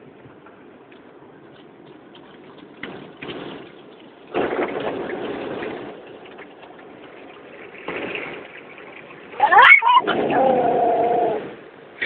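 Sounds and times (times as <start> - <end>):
water jets spraying car: 0.3 - 12.0.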